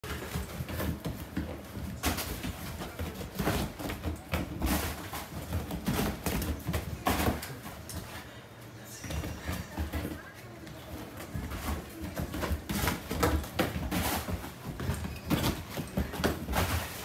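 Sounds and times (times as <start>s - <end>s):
dog paws thudding on sofa: 0.0s - 8.3s, 9.0s - 17.0s.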